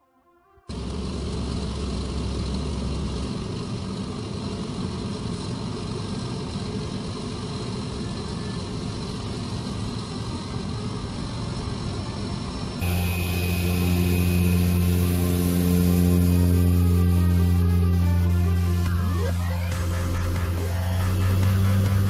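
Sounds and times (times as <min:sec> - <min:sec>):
propeller low rumble: 0:00.7 - 0:22.0
turbine whine: 0:00.7 - 0:22.0.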